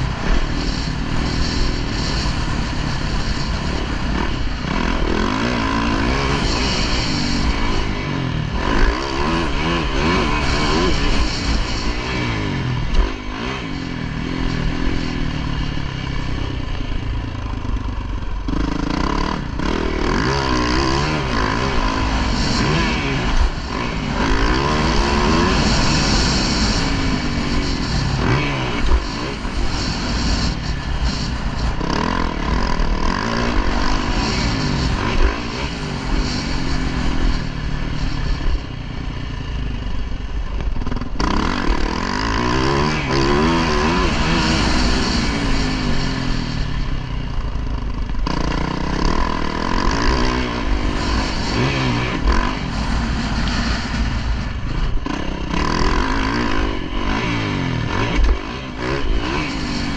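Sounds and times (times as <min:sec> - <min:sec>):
motocross bike engine revving: 0:00.0 - 0:59.9
rushing noise: 0:00.0 - 0:59.9.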